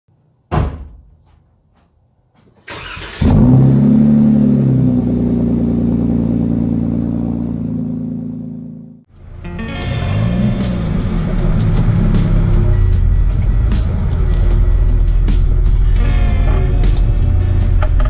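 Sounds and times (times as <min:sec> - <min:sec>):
vehicle engine starting and running: 0:02.6 - 0:18.0.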